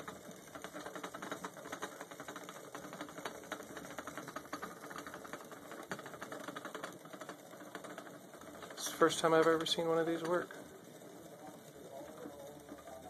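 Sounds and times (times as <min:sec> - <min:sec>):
coffee maker bubbling: 0:00.0 - 0:13.0.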